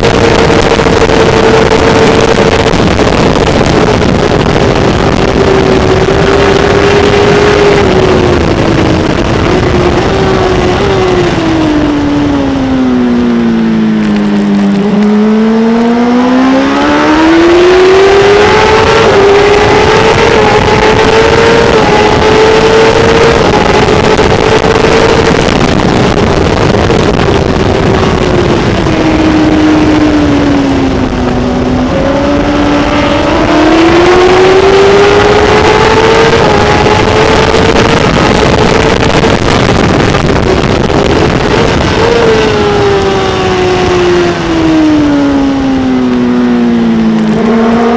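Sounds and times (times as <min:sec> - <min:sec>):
motorcycle engine at high revs: 0:00.0 - 0:47.9
wind rush: 0:00.0 - 0:47.9.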